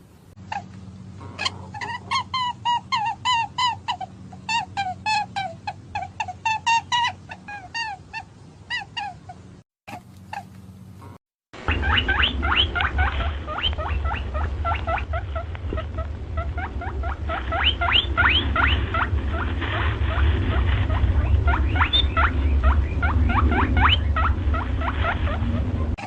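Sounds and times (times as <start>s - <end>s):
steady low hum: 0.0s - 26.0s
rabbit squeaking: 0.4s - 26.0s.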